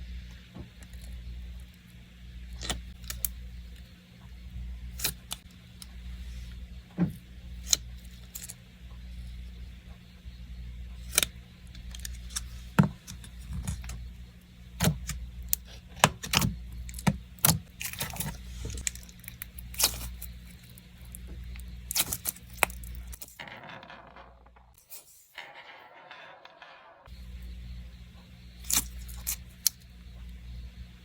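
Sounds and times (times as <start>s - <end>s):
low steady hum: 0.0s - 24.8s, 26.4s - 31.0s.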